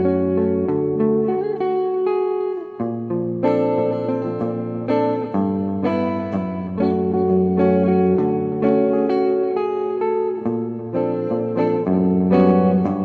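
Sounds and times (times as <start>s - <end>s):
clean electric guitar ballad: 0.0s - 13.0s.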